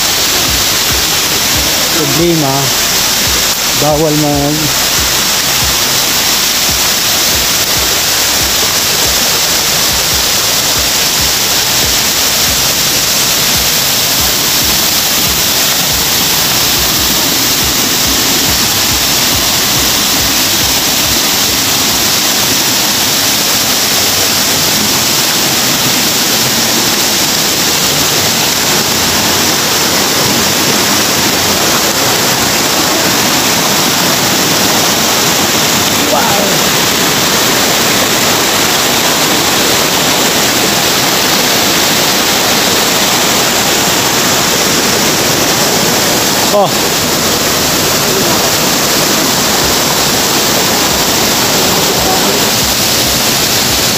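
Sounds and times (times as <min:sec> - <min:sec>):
stream rushing over boulders: 0:00.0 - 0:53.9.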